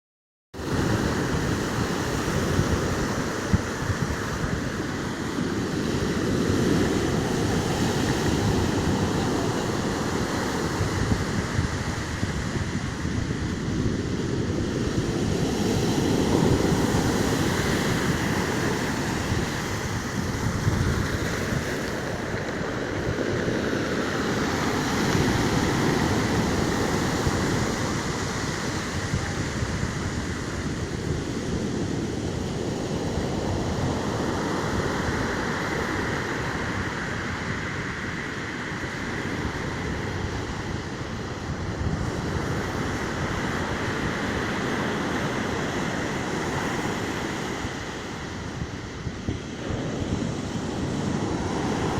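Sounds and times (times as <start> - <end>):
storm waves breaking: 0.6 - 51.9
wind buffeting microphone: 0.6 - 51.9.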